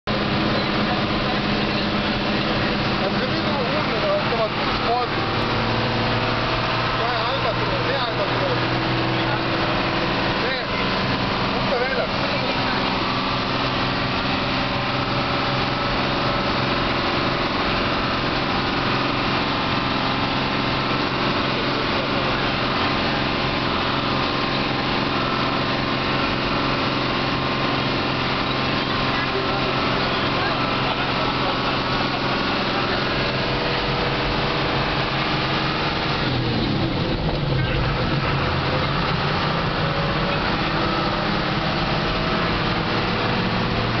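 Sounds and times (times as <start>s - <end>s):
bus engine running: 0.0s - 44.0s
road noise: 0.0s - 44.0s.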